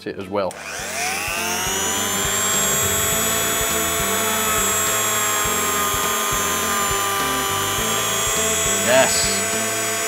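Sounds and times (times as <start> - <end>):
rotary tool high-pitched whine: 0.5 - 10.0.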